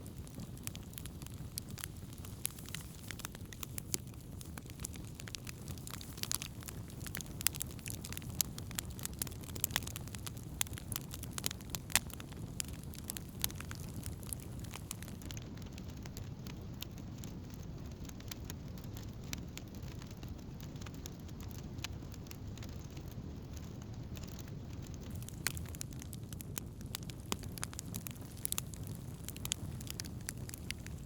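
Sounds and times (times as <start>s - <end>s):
campfire crackling and popping: 0.0s - 31.0s
fire low rumble: 0.0s - 31.0s.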